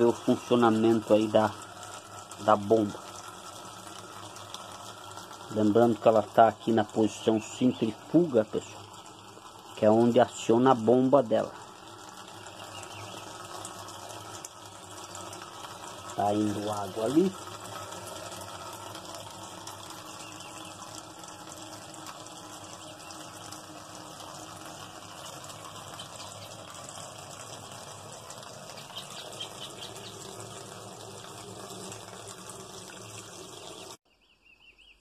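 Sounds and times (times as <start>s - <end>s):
water pouring into washing machine: 0.0s - 34.0s.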